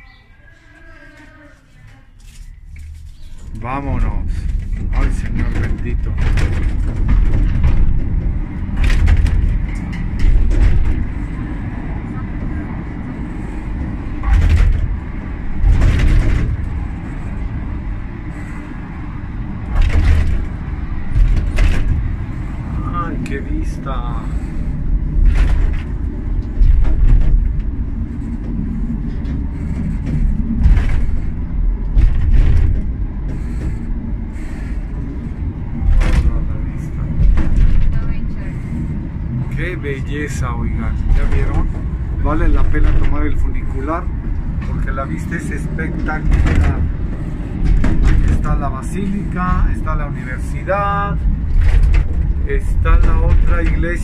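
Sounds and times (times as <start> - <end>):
funicular cabin rumbling: 0.0 - 54.0
rattling clatters: 2.2 - 54.0.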